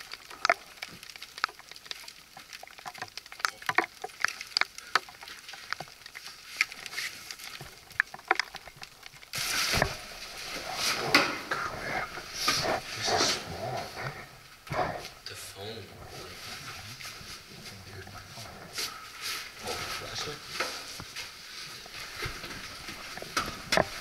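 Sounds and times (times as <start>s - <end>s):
rustling and scraping: 0.0s - 24.0s.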